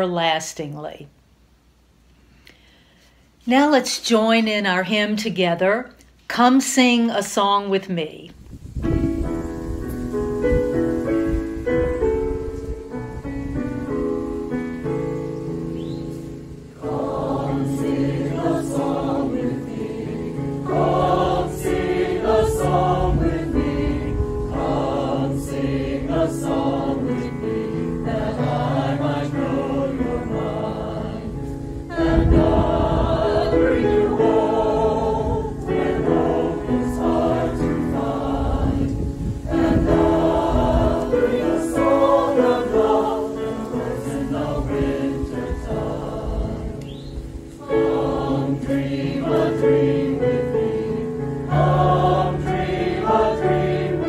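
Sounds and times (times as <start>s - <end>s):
keyboard playing: 8.9s - 38.6s, 39.5s - 54.0s
choir singing a hymn: 10.4s - 54.0s.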